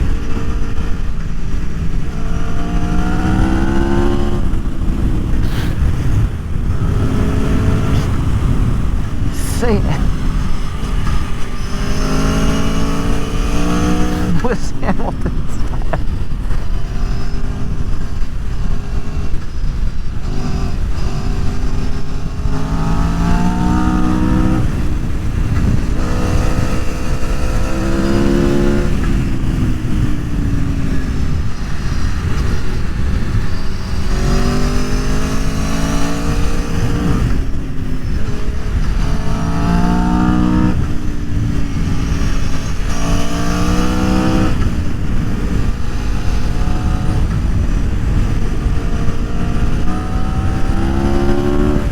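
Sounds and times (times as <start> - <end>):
motorcycle engine revving: 0.0 - 14.6, 15.3 - 51.9
wind and road noise: 0.0 - 51.9.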